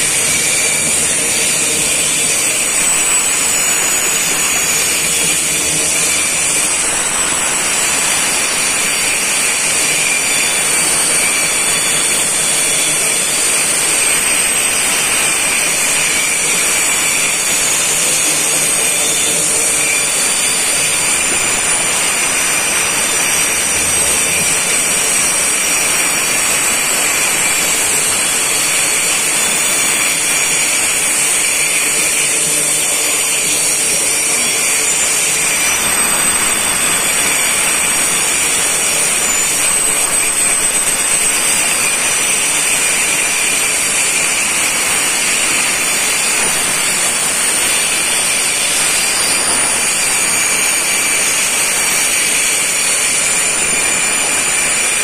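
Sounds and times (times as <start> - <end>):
high-pitched squealing: 0.0 - 55.0.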